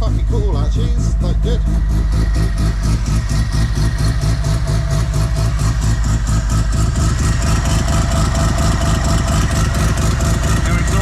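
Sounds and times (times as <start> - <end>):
rotary engine idling: 0.0 - 11.0.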